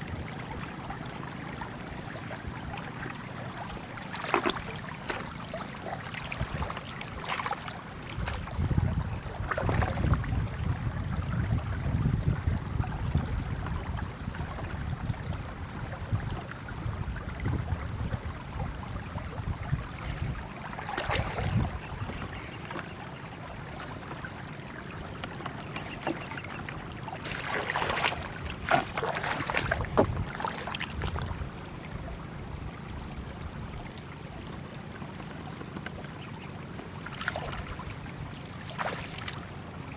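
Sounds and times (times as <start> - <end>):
floodwater sloshing and splashing: 0.0 - 39.9.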